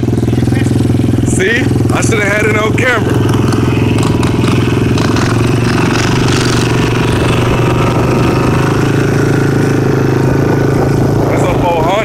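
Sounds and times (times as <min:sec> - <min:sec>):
small vehicle engine idling: 0:00.0 - 0:12.0.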